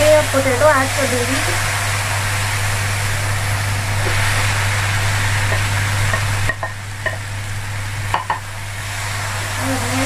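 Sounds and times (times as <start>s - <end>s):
food sizzling in a pan: 0.0s - 10.0s
steady low hum: 0.0s - 10.0s.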